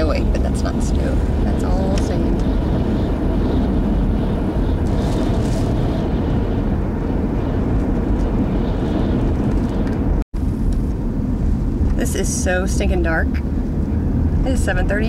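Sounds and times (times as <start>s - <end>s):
wind buffeting a car: 0.0s - 15.0s.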